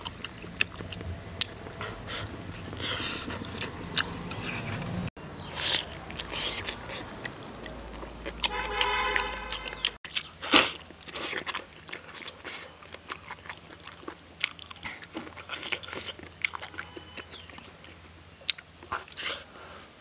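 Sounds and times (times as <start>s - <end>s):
chewing and biting with smacks: 0.0s - 19.6s.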